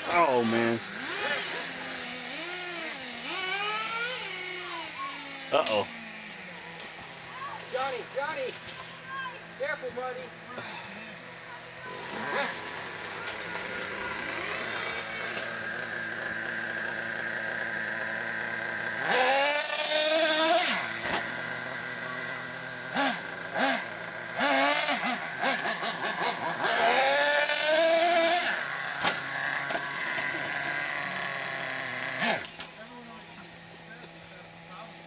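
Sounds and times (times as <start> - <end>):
small nitro engine revving: 0.0 - 8.2, 9.0 - 35.0.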